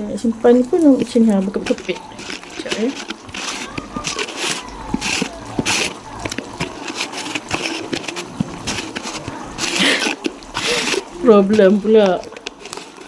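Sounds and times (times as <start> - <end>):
containers clicking and knocking: 0.2 - 13.0
packets rustling: 1.0 - 13.0.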